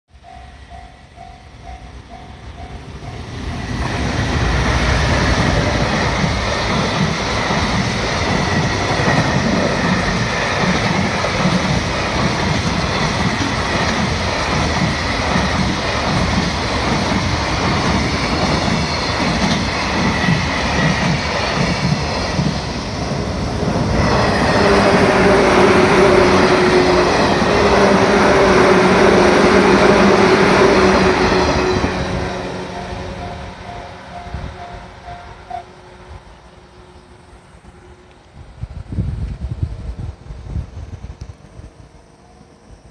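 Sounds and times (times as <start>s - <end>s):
train rumbling past: 0.1s - 42.9s
steady tones: 0.4s - 38.0s.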